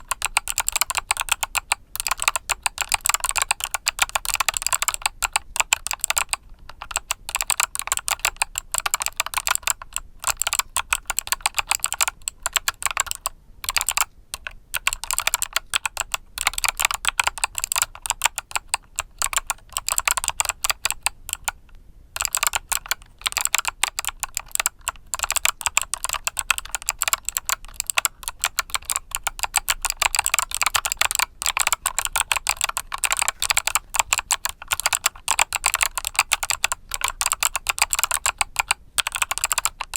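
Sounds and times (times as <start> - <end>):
mechanical keyboard key clicks: 0.0 - 21.6, 22.2 - 39.9.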